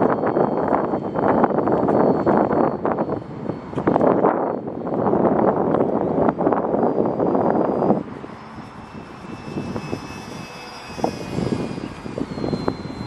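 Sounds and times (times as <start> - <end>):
model plane motor whining: 0.0 - 13.0
wind buffeting microphone: 0.0 - 13.0.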